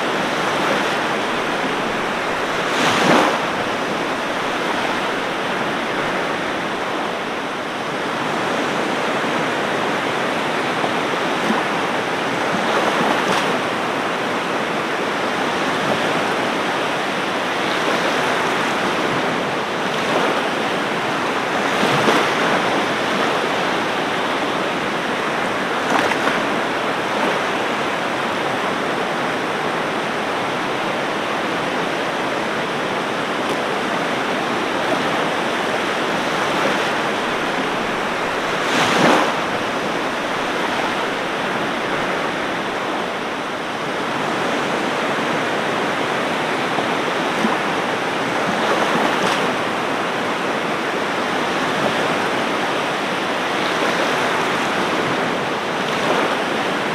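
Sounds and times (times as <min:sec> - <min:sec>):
ocean surf washing onto beach: 0:00.0 - 0:56.9.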